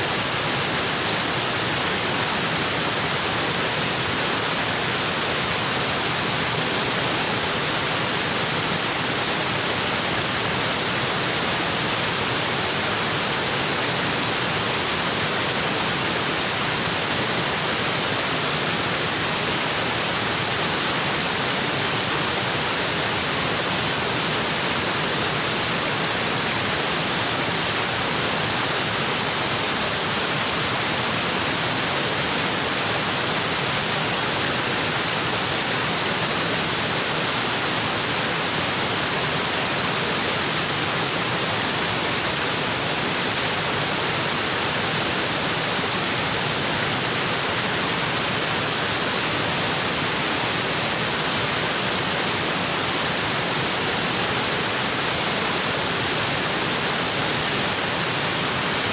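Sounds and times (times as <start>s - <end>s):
waterfall onto rocks: 0.0s - 58.9s.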